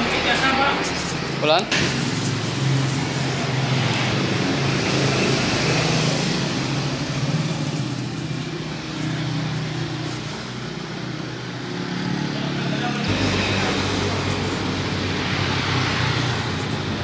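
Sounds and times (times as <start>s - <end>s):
engine humming and hissing: 0.0s - 17.0s.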